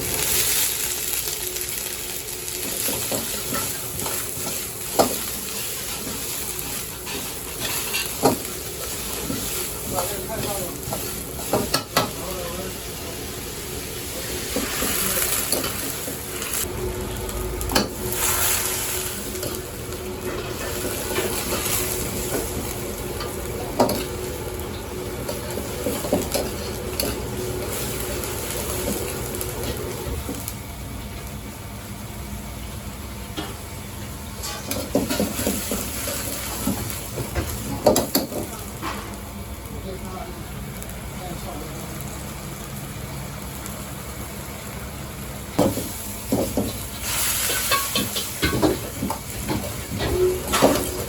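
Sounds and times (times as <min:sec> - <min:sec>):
rice sizzling in a wok: 0:00.0 - 0:51.0.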